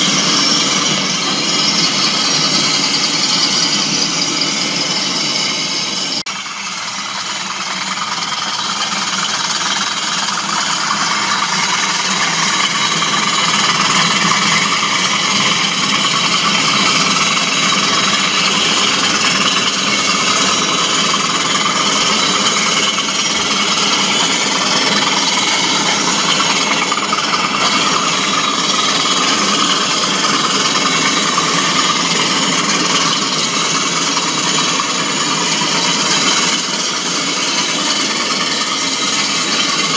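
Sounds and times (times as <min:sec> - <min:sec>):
model train engine drone: 0:00.0 - 0:39.9
wheels rattling on rail: 0:00.0 - 0:39.9.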